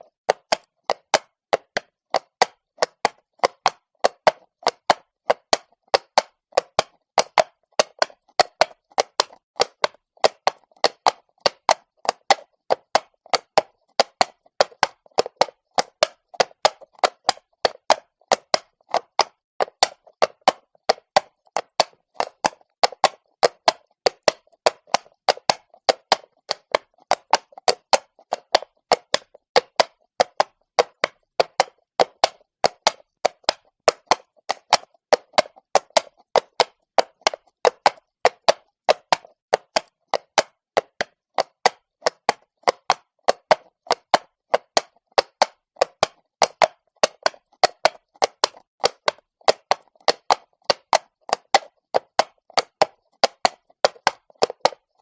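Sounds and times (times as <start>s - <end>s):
horse hooves on cobblestones: 0.3s - 55.0s.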